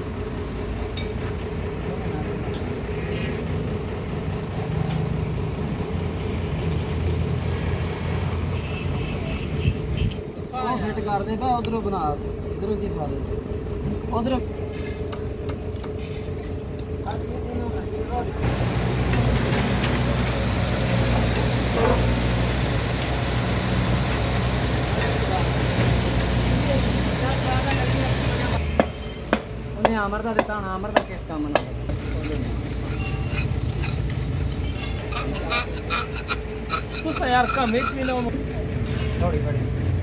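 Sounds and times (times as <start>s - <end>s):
engine droning: 0.0s - 8.8s, 9.9s - 40.0s.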